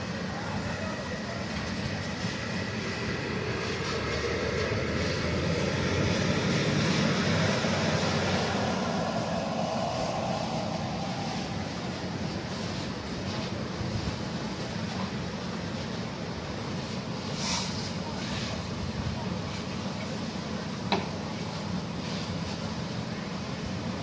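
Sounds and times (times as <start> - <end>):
fire engines running: 0.0 - 24.0
house fire roaring: 0.0 - 24.0.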